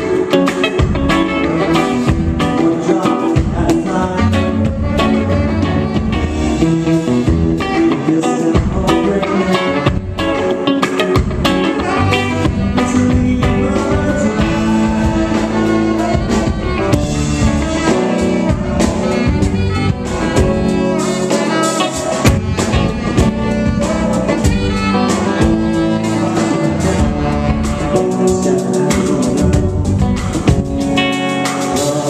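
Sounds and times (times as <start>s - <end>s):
live band playing: 0.0s - 32.0s
saxophone: 0.0s - 32.0s.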